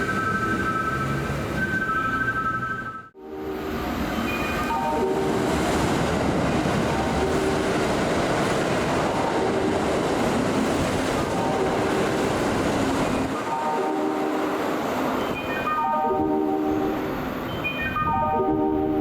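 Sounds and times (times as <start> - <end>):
electric train wheel and rail noise: 0.0 - 19.0.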